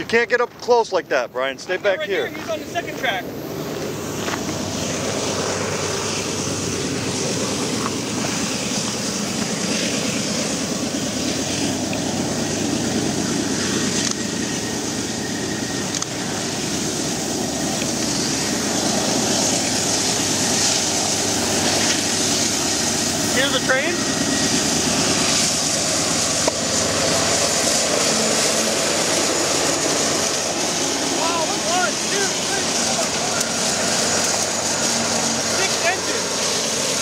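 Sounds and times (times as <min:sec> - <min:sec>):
diesel locomotive engines droning: 0:00.0 - 0:37.0.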